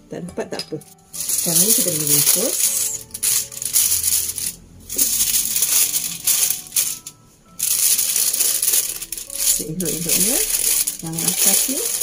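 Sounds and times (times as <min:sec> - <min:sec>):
foil crinkling and rustling: 0:01.2 - 0:12.0.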